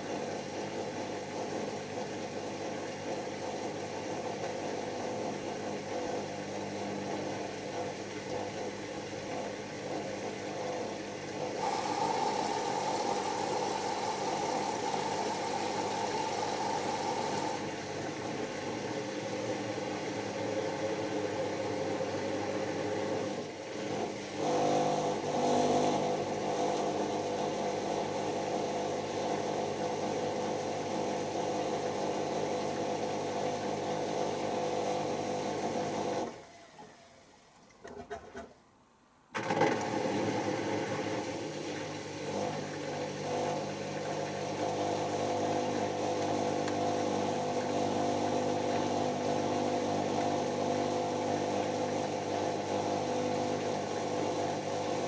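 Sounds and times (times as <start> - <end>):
washing machine spinning: 0.0 - 38.6, 39.4 - 55.0.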